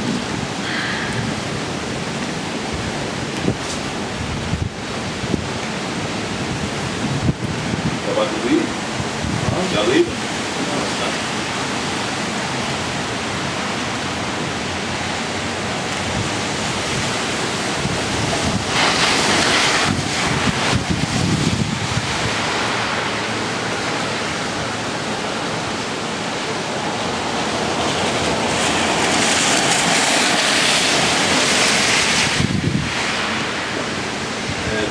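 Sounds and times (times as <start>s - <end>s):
strong wind buffeting microphone: 0.0s - 34.9s.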